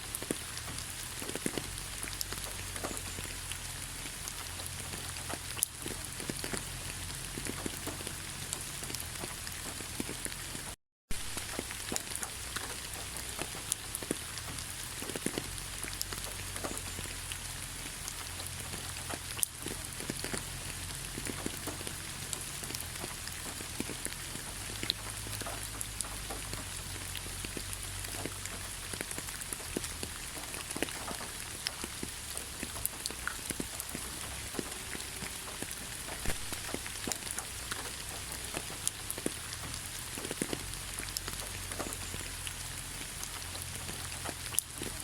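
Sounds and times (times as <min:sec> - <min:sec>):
rain in forest: 0:00.0 - 0:45.0
raindrops pattering nearby: 0:00.0 - 0:45.0.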